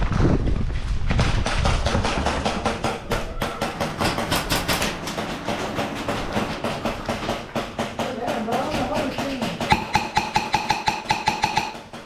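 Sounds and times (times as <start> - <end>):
rapid sharp clicks and knocks: 1.1 - 12.0.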